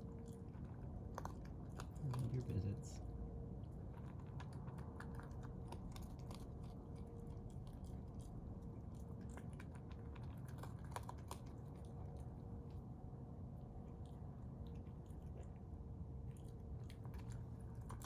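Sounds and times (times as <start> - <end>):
raccoon chewing and crunching food: 0.0 - 18.0.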